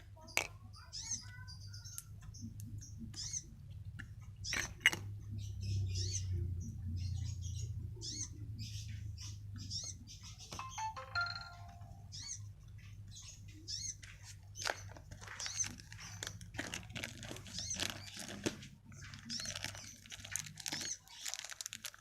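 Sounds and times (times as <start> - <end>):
small bird chirping: 0.0 - 16.6, 17.4 - 18.4, 19.0 - 21.6.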